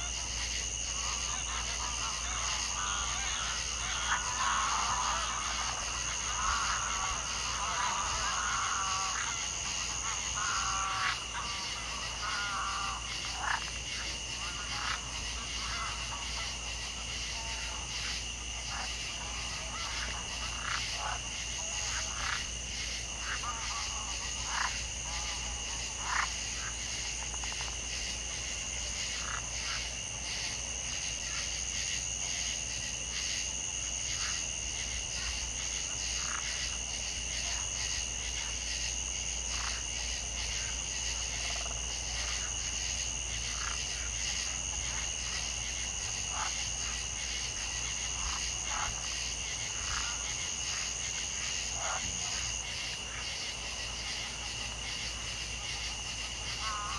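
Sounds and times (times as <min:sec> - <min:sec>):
short frog calls: 0:00.0 - 0:56.9.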